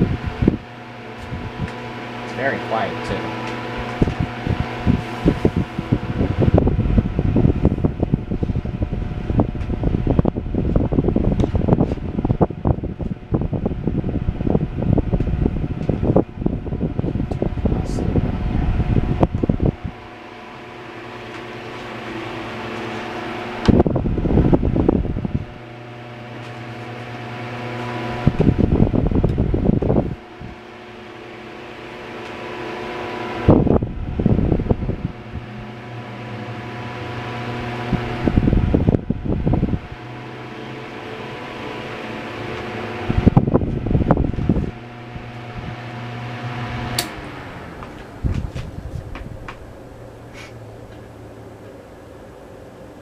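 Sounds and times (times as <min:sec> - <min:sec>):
air gust buffeting microphone: 0:00.0 - 0:26.4, 0:27.0 - 0:30.8, 0:32.6 - 0:40.3, 0:41.4 - 0:53.0
table fan motor hum: 0:00.0 - 0:53.0.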